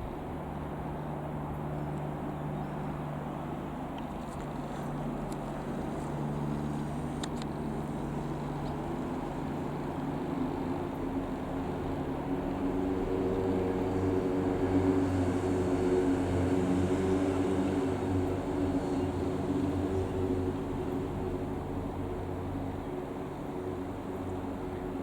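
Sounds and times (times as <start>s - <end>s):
propeller aeroplane flying over: 0.0s - 25.0s.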